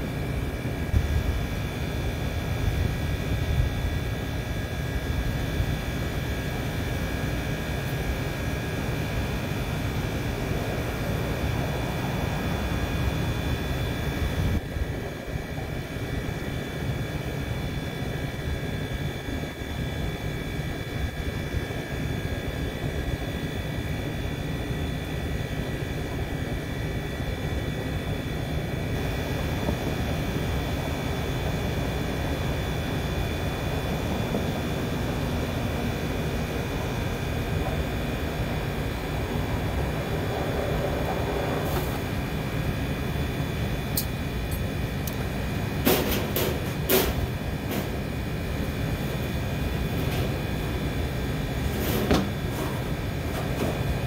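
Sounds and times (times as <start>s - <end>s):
crane engine rumbling: 0.0s - 54.0s.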